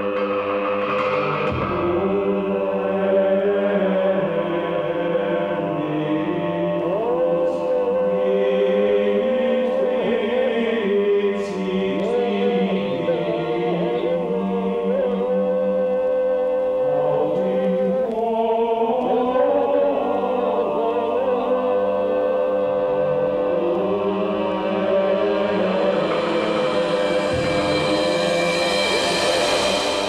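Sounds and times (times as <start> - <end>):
droning chant-like music: 0.0 - 30.0.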